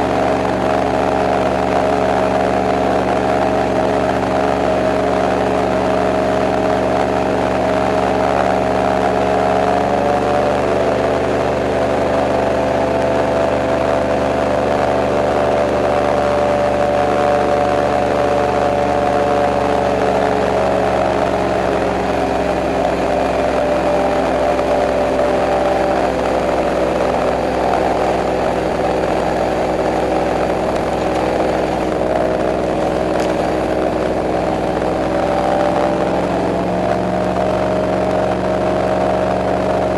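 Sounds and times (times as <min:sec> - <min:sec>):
airboat engine drone: 0:00.0 - 0:39.9.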